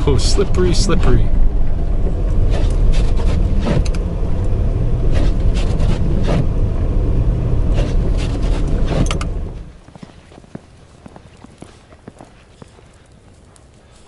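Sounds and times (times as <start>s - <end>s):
vehicle driving rumble: 0.0s - 14.0s.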